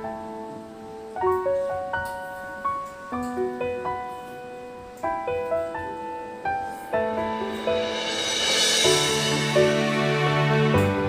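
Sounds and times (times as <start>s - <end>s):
piano notes and chords: 0.0s - 11.0s.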